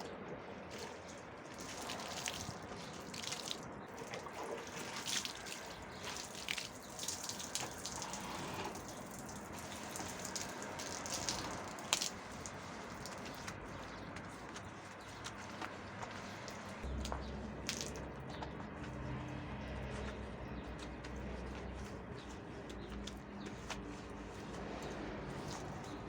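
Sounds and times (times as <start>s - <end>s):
water splashing and dripping: 0.0s - 26.0s
wet scrubbing: 0.6s - 26.0s.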